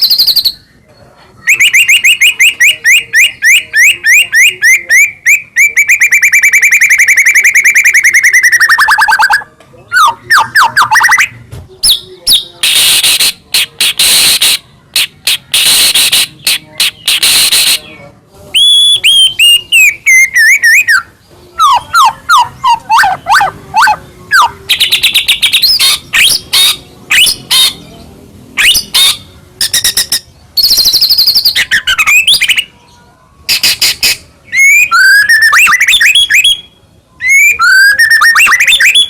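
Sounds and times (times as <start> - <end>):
bird singing: 0.0 - 39.0.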